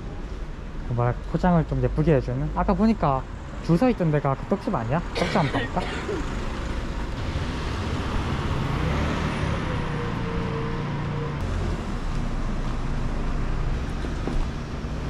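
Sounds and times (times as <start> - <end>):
cars passing: 0.0 - 15.0
low traffic rumble: 0.0 - 15.0.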